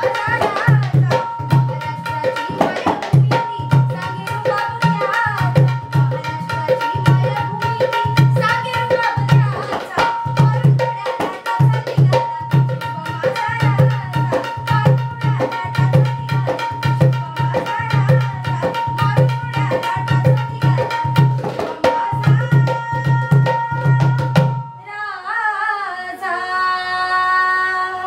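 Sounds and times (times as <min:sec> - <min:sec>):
hand drum rhythm: 0:00.0 - 0:24.8
woman singing: 0:00.0 - 0:28.0.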